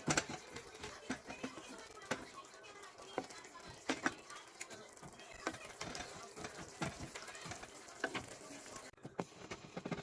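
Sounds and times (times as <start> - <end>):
stirring scrapes against pan: 0.0 - 10.0
vegetables sizzling in a pan: 0.0 - 10.0.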